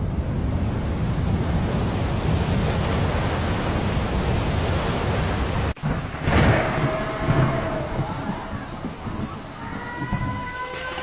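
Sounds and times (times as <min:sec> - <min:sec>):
rushing storm wind and water: 0:00.0 - 0:11.0.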